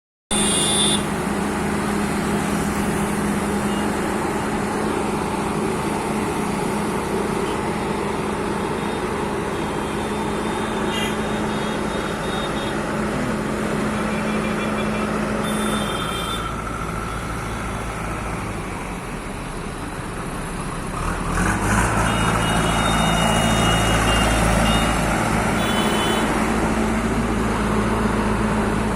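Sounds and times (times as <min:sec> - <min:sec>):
diesel earthmover engine running: 0:00.3 - 0:28.9.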